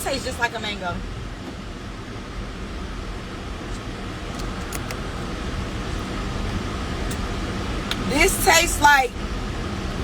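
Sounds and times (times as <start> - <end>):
car cabin road noise: 0.0 - 10.0.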